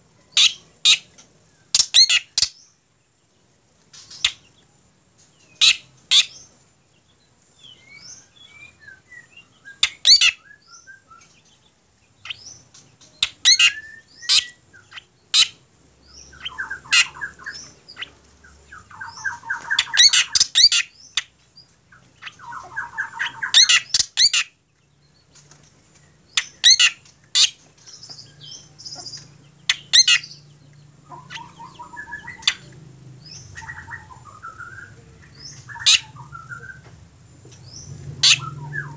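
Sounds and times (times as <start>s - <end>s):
bird calling with rattling trills: 0.3s - 2.8s, 7.6s - 38.9s.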